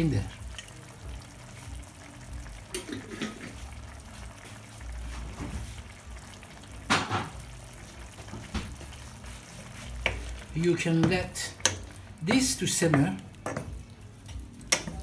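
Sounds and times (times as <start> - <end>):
sauce simmering in pan: 0.0 - 15.0.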